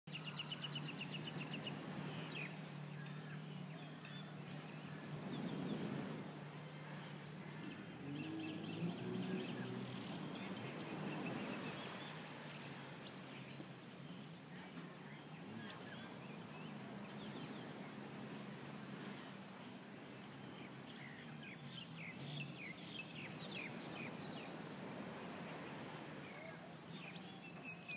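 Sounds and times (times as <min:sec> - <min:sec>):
birds chirping faintly: 0:00.1 - 0:27.9.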